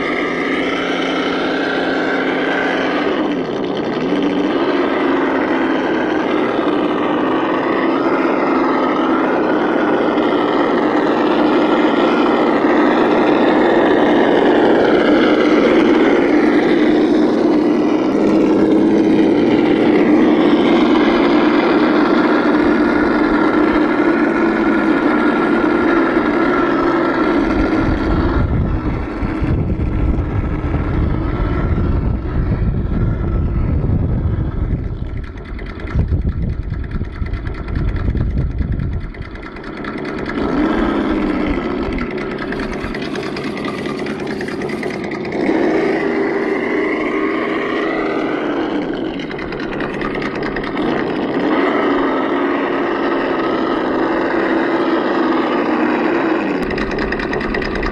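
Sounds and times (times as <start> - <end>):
low rumbling noise: 0.0 - 57.9
simulated engine sound from speaker: 0.0 - 57.9.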